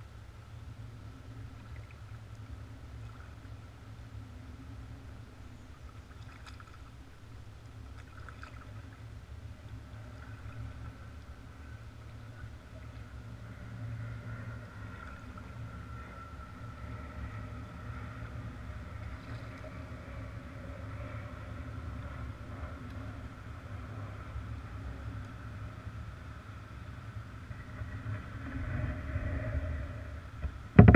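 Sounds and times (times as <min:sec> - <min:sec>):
kayak moving over calm water: 0:00.0 - 0:30.9.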